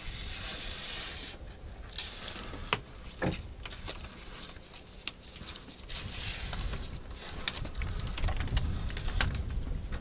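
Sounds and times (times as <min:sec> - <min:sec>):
velcro tape rustling and crinkling: 0:00.0 - 0:10.0.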